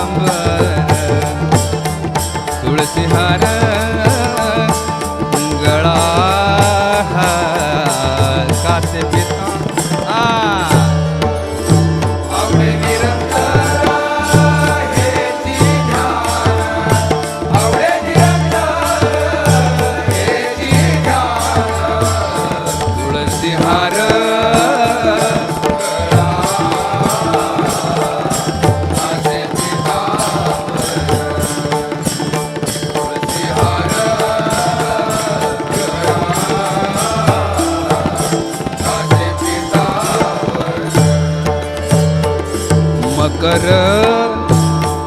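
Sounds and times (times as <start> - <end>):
hand drum rhythm: 0.0 - 45.0.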